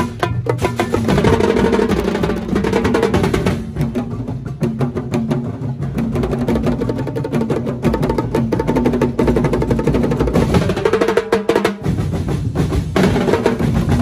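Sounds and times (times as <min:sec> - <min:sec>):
drum corps playing fast rhythm: 0:00.0 - 0:14.0.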